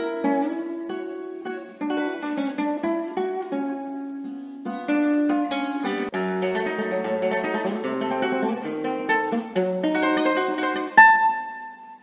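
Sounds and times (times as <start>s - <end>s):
classical guitar tremolo: 0.0s - 12.0s.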